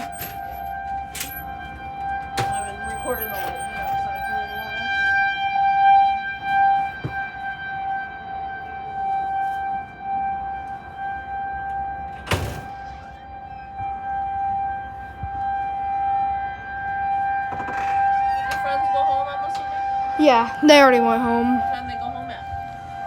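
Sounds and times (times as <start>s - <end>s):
rotating siren tone: 0.0s - 12.2s, 13.3s - 23.0s.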